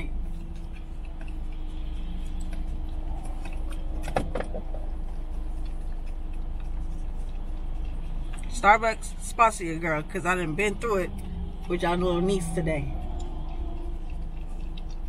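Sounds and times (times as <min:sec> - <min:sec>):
car engine idling: 0:00.0 - 0:15.0
dog licking: 0:00.0 - 0:15.0.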